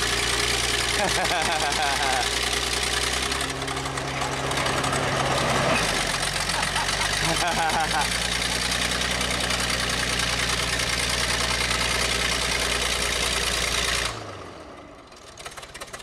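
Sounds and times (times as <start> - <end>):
bulldozer engine running: 0.0 - 16.0.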